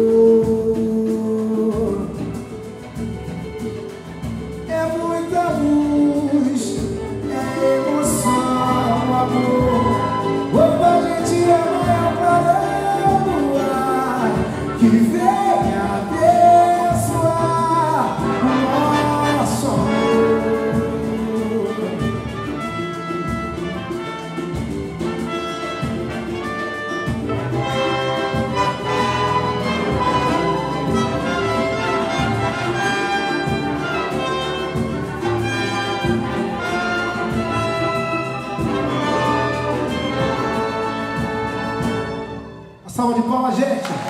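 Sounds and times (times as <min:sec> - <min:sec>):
orchestra playing samba: 0:00.0 - 0:44.0.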